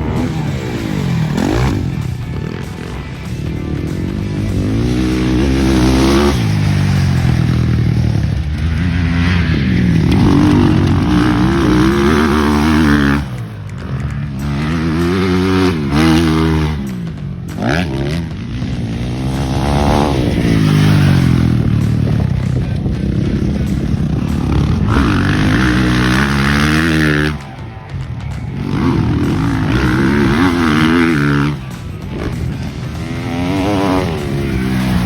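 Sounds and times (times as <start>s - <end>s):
motocross bike engine revving: 0.0s - 35.0s.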